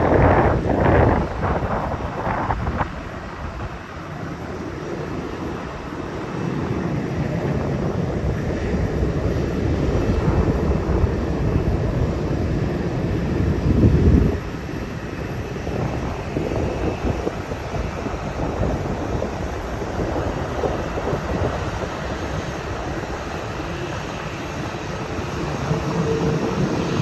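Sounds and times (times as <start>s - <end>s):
airliner engines rushing past: 0.0s - 27.0s
jet engine low rumble: 0.0s - 27.0s.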